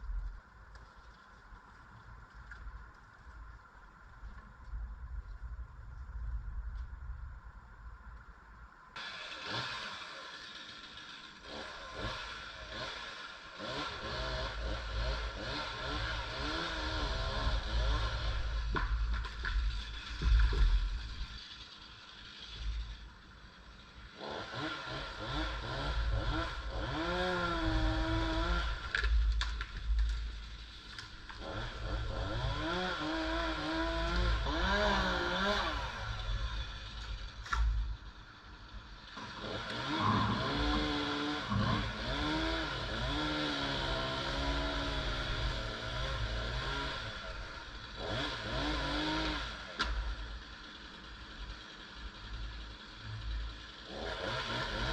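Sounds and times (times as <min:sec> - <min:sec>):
chainsaw running: 0:09.0 - 0:54.9.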